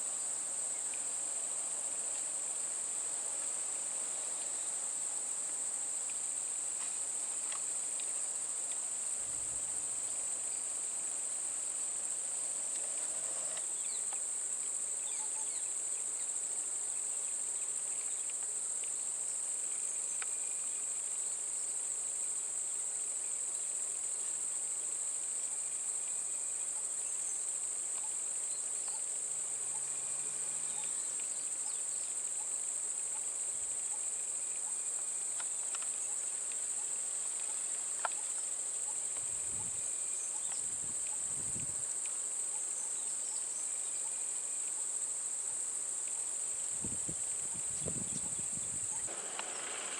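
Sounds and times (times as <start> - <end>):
shrill insect chorus: 0.0 - 49.9.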